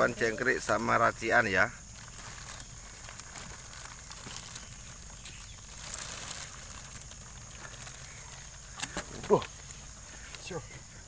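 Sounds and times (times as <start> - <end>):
plastic bag rustling: 0.0 - 10.6
insect chirring: 0.0 - 11.0.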